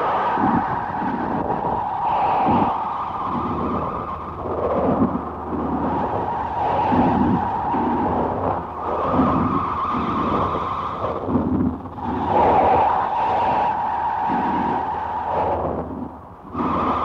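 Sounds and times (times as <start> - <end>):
low throbbing pulses: 0.0 - 16.9.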